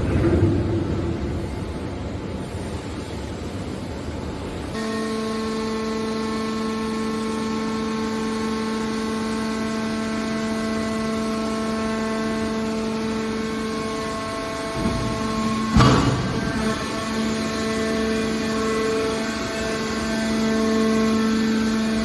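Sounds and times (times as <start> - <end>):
hydraulic motor and pump humming: 0.0 - 22.0.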